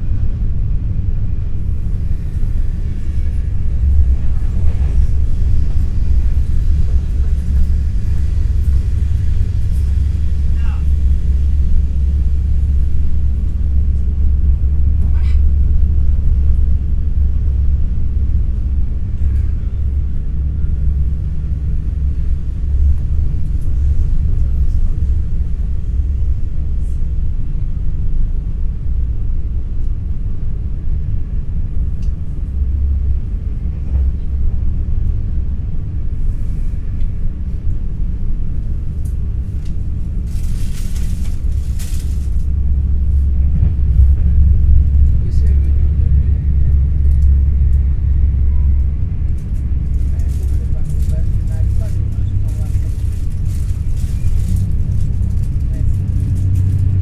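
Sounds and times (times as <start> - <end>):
electric train rumble inside car: 0.0 - 57.0.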